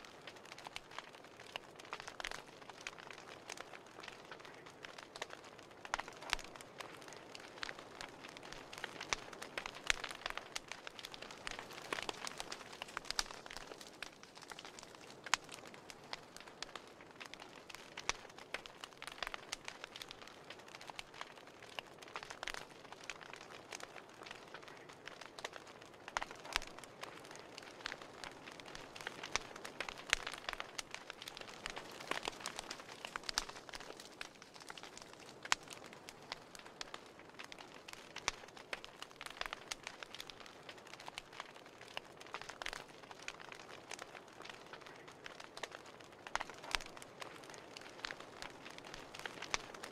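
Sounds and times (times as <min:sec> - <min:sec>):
paper burning and crackling: 0:00.0 - 0:49.9.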